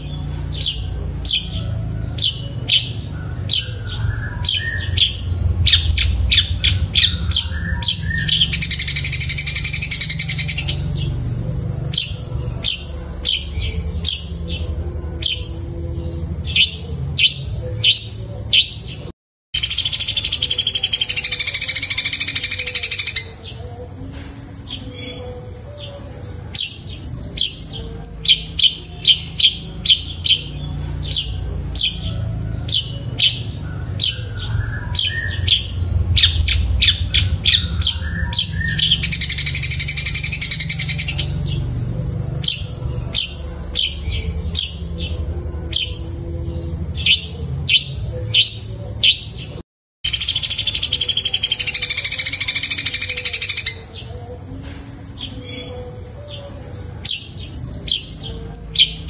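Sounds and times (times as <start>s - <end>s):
bird chirping: 0.0s - 23.8s, 24.6s - 54.6s, 55.2s - 59.0s.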